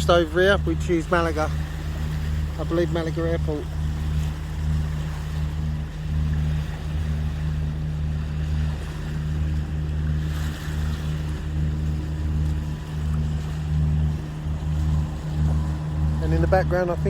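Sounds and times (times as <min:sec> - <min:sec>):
diesel engines droning: 0:00.0 - 0:17.0
water washing along hulls: 0:00.0 - 0:17.0.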